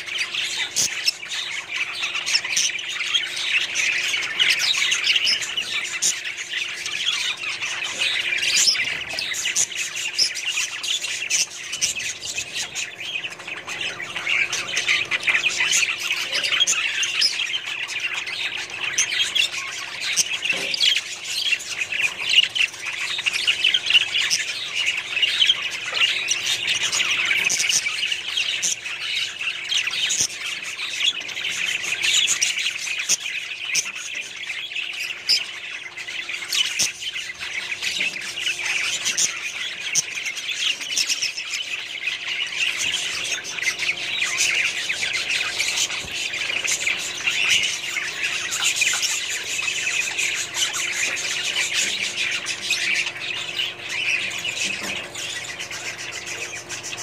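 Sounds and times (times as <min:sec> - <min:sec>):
budgerigars chirping and squawking: 0:00.0 - 0:57.0.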